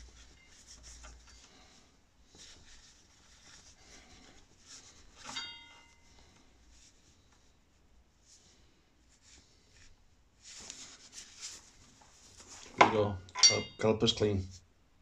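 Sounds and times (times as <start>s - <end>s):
cloth rubbing on metal: 0.0s - 12.8s.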